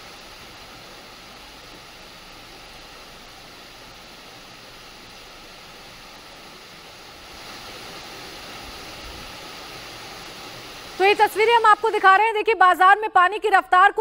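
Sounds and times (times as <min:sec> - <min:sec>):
floodwater rushing: 0:00.0 - 0:12.3.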